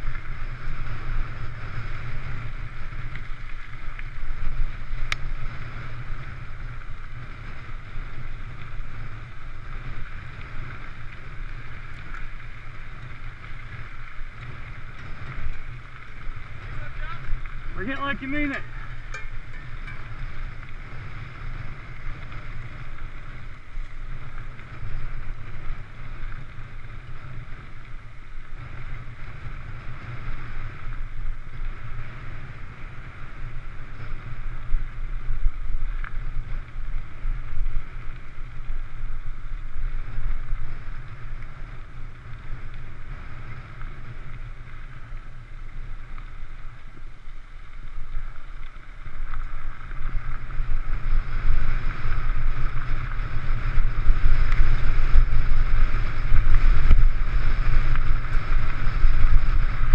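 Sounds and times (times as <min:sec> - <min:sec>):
bike tyres rolling on gravel: 0:00.0 - 0:59.9
wind buffeting microphone: 0:00.0 - 0:59.9.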